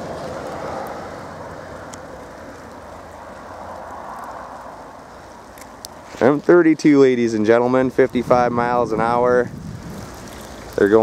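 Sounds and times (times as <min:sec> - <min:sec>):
tyres hissing on slushy road: 0:00.0 - 0:11.0.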